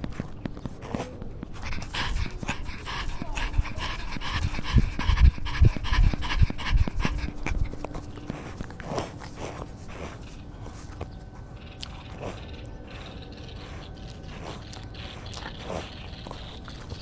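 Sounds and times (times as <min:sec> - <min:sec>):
cat panting: 0:00.0 - 0:17.0.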